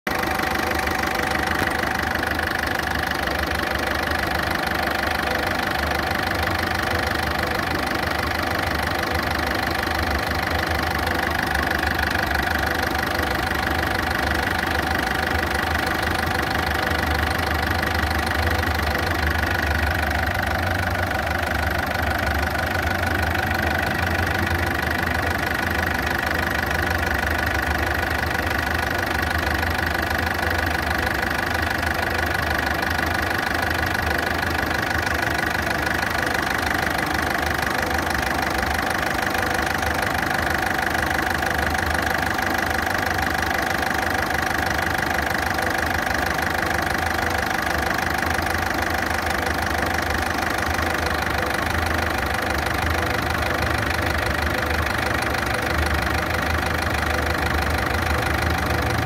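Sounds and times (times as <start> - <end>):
diesel engine idling roughly: 0.0 - 59.0
engine ticking: 0.0 - 59.0.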